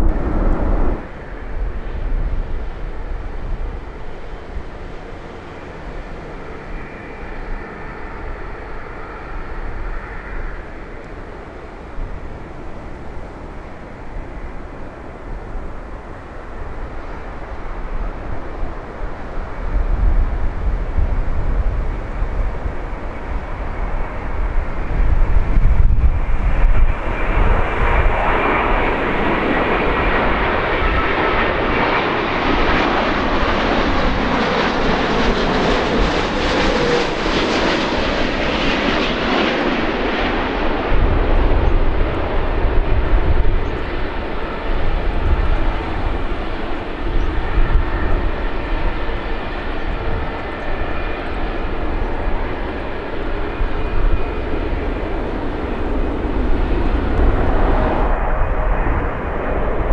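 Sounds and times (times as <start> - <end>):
jet airliner passing overhead: 0.0 - 59.9
wind rumbling on microphone: 0.0 - 59.9.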